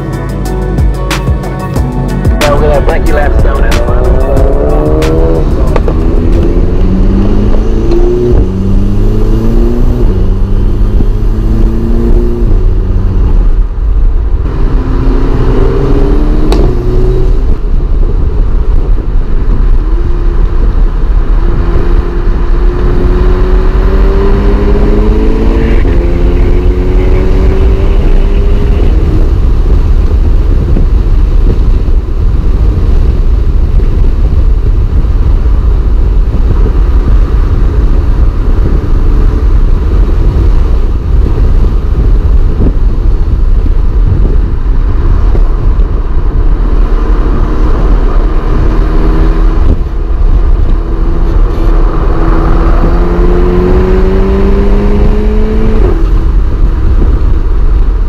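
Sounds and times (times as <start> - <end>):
road rumble: 0.0 - 58.0
turbocharged car engine accelerating: 0.0 - 58.0
wind noise: 0.0 - 58.0.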